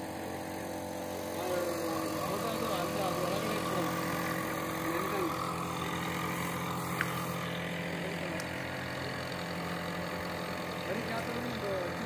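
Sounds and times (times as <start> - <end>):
steady engine hum: 0.0 - 12.0.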